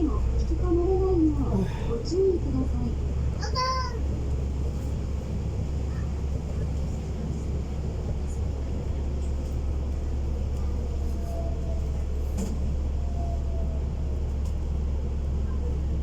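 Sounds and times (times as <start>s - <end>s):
monorail interior rumble: 0.0s - 16.0s.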